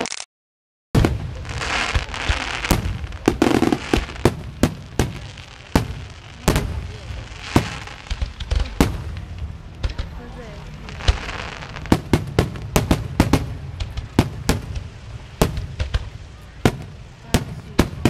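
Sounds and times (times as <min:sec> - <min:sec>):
fireworks bangs: 0:01.0 - 0:18.0.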